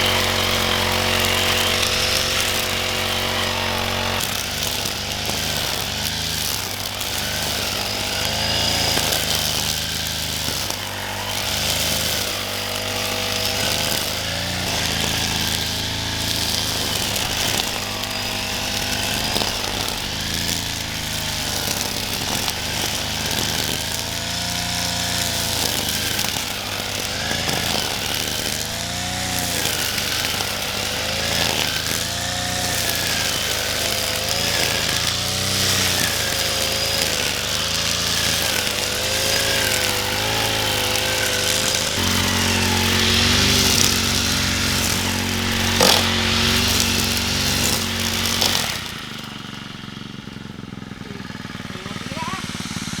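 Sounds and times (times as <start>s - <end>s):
small petrol engine revving: 0.0s - 53.0s.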